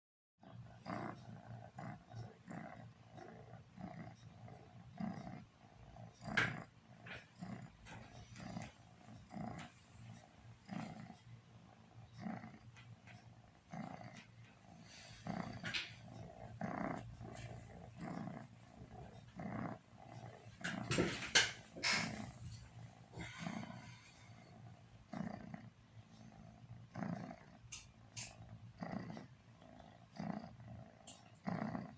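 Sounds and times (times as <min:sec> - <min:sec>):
cat snoring: 0:00.4 - 0:31.9.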